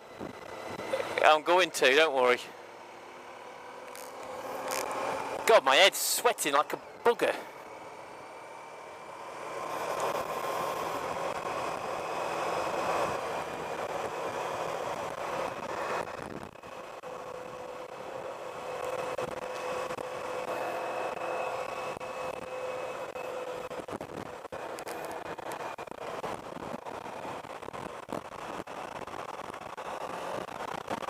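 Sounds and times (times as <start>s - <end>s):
faint motorcycle whine: 0.0s - 31.0s
wind and road noise: 0.0s - 31.0s.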